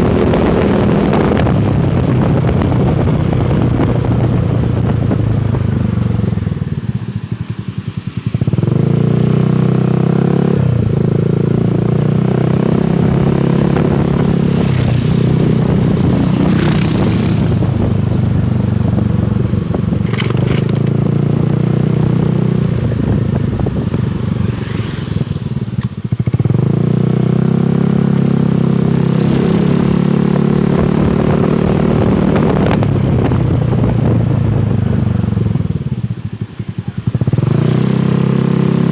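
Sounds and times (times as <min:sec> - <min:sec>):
scooter engine running: 0:00.9 - 0:38.9.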